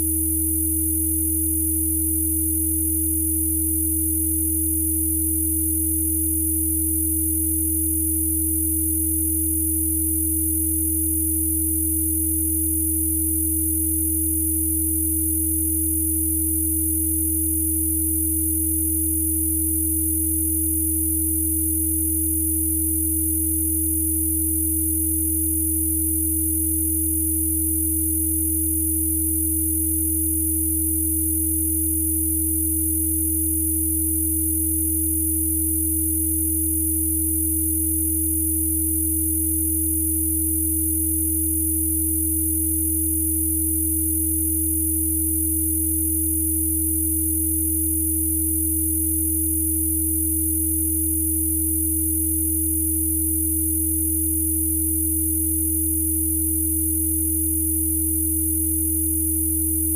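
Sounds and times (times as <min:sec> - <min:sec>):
mid-pitched sine tone: 0:00.0 - 0:59.9.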